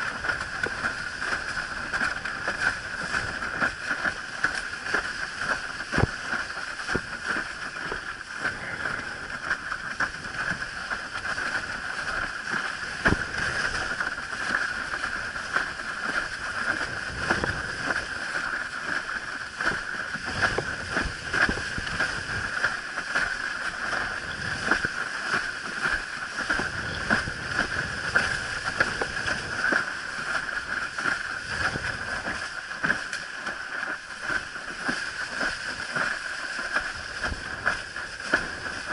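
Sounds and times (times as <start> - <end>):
board slapping water: 0.0 - 38.9
water rushing against board: 0.0 - 38.9.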